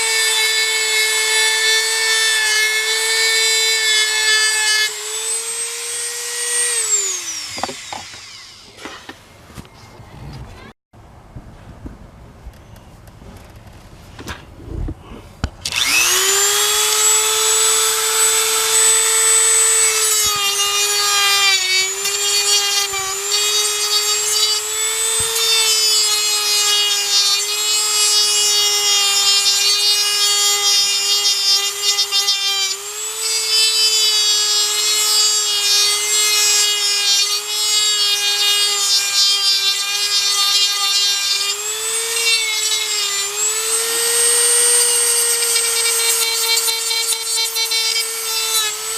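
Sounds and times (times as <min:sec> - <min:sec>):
high-speed power tool whining: 0:00.0 - 0:09.2, 0:15.5 - 0:48.9.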